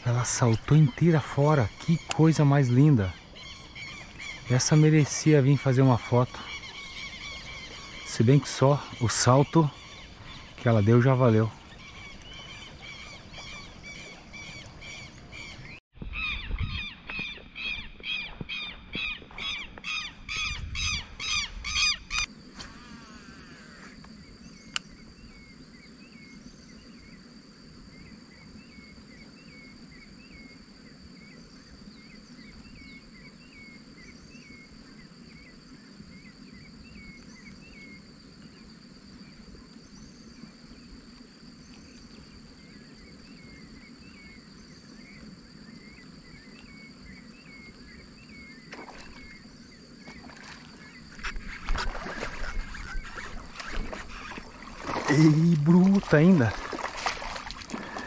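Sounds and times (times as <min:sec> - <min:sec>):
rural background: 0:00.0 - 0:58.0.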